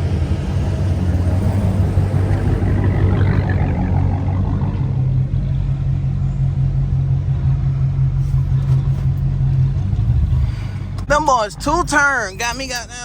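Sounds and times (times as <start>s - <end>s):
car engine loud low drone: 0.0s - 13.0s.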